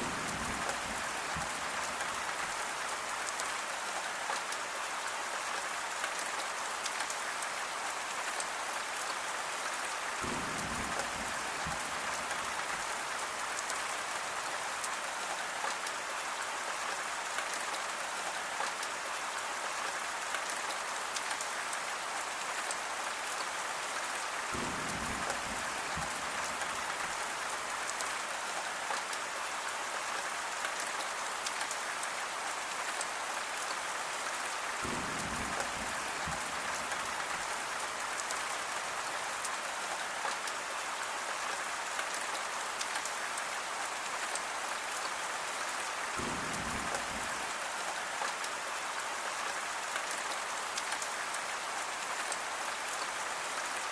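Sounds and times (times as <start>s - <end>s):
steady rainfall: 0.0s - 53.9s.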